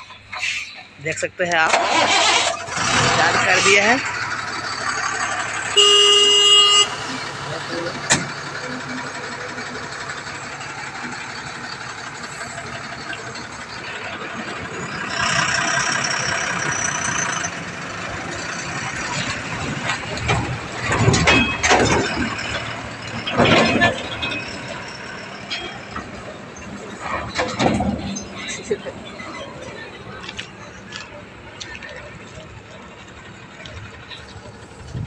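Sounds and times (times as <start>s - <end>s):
diesel truck engine: 0.0s - 35.0s
loud bursts of engine noise: 1.5s - 35.0s.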